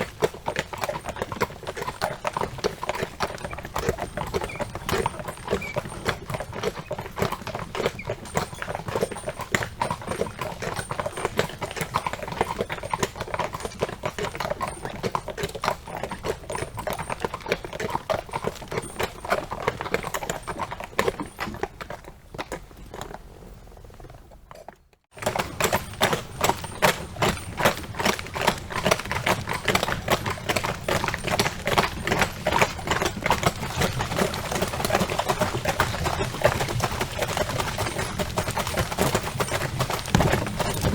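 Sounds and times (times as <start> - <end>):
horse hooves clip-clopping: 0.0 - 40.9.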